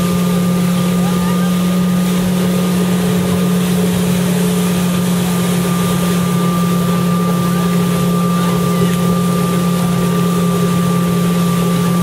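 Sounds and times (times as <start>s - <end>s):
motorboat engine running: 0.0s - 12.0s
water rushing: 0.0s - 12.0s.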